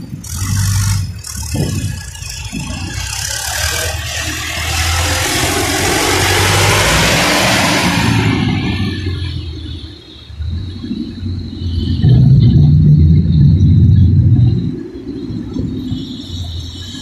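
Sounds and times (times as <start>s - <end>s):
broad rushing noise: 0.0s - 17.0s
tractor diesel engine running: 0.0s - 17.0s.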